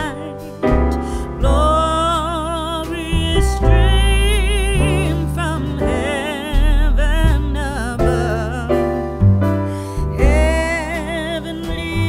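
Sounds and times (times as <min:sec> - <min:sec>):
deep sustained bass notes: 0:00.0 - 0:12.0
slow melody with vibrato: 0:00.0 - 0:12.0.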